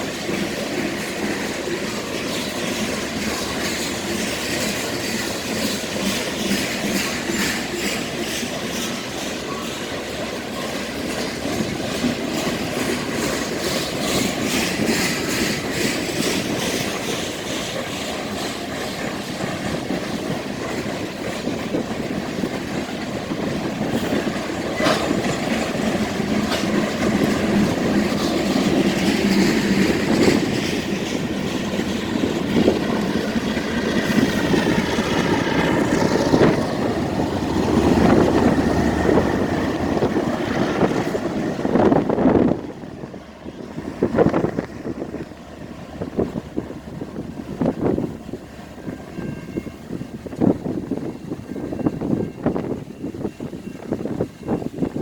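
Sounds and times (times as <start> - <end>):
freight train rolling past: 0.0 - 55.0
wheels clacking over rail joints: 0.0 - 55.0.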